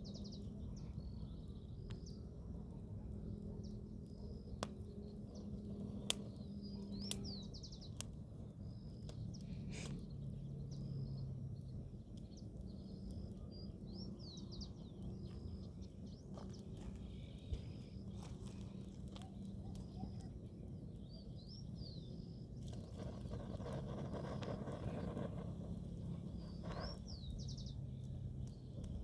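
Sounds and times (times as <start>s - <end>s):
campfire crackling: 0.0s - 29.0s
steady low rumble: 0.0s - 29.0s
birds chirping: 3.6s - 29.0s.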